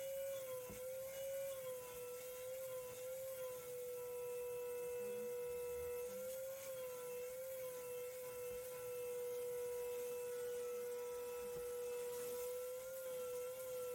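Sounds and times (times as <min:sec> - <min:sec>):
vacuum cleaner motor whining: 0:00.0 - 0:13.9.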